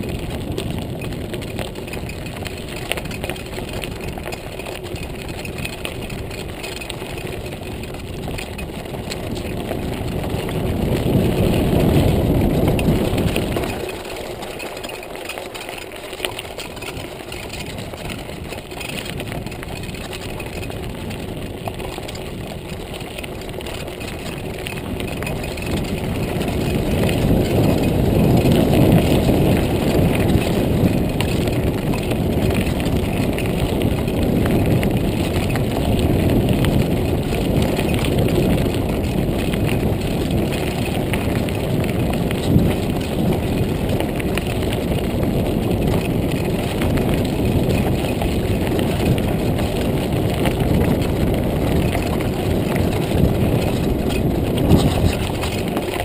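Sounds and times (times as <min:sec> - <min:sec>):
bike rattling: 0:00.0 - 0:56.0
tyres crunching on gravel: 0:00.0 - 0:56.0
wind noise: 0:00.0 - 0:56.0.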